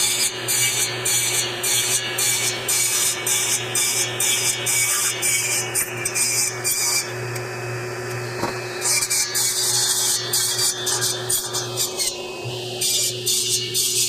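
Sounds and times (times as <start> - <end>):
electric saw cutting wood: 0.0 - 14.0.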